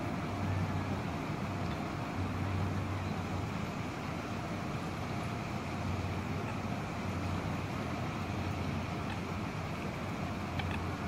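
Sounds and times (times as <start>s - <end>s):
low rumble of city traffic: 0.0s - 11.0s.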